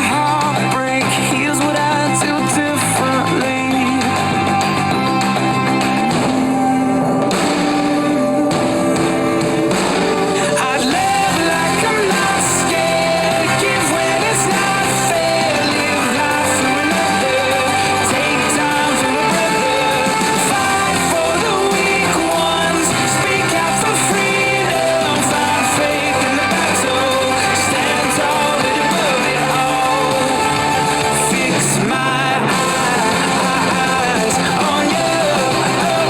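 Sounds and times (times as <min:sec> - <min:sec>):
pop-rock song with vocals: 0:00.0 - 0:36.0.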